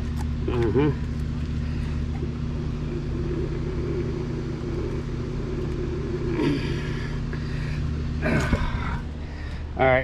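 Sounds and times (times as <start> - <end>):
low mechanical drone: 0.0 - 10.0.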